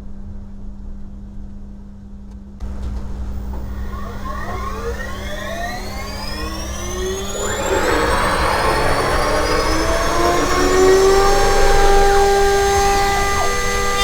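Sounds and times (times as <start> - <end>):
low hum: 2.6 - 14.0
router spindle whine rising: 2.6 - 14.0.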